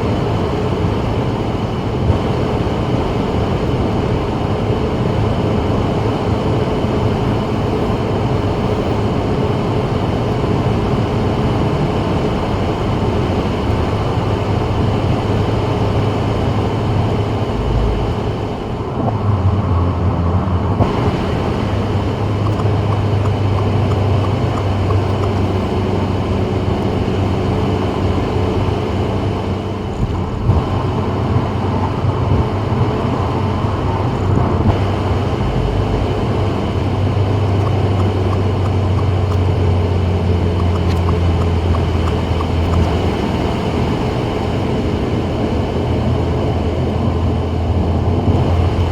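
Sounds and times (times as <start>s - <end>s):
car engine at speed: 0.0s - 48.9s
low hum: 0.0s - 48.9s
tyre and road noise: 0.0s - 48.9s.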